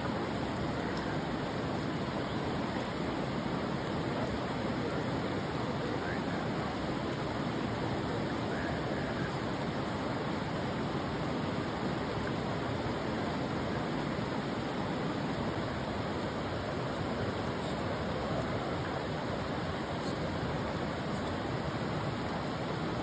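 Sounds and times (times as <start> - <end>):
falling rain: 0.0 - 23.0
river water rushing: 0.0 - 23.0.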